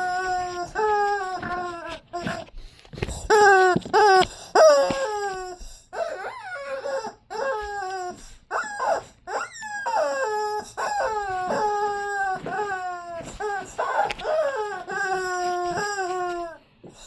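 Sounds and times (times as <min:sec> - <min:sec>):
squeaky dog toy squeaks: 0:00.0 - 0:02.4, 0:03.2 - 0:16.6.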